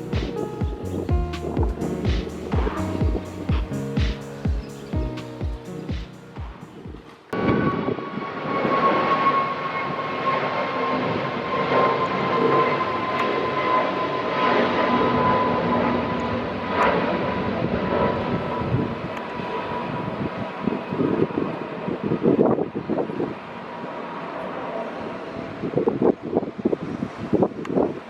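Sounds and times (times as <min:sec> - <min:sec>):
jet engines passing by: 0:00.0 - 0:28.0.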